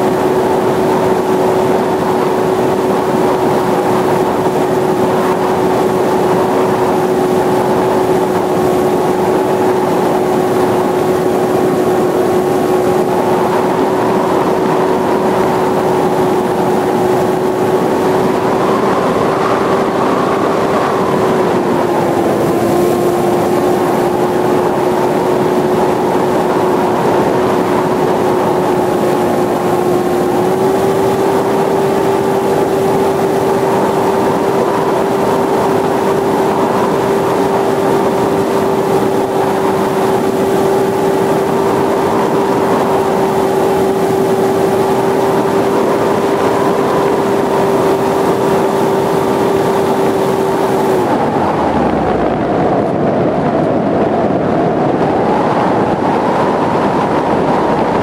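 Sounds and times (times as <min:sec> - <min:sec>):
electric motor and propeller hum: 0:00.0 - 0:58.0
rushing air noise: 0:00.0 - 0:58.0.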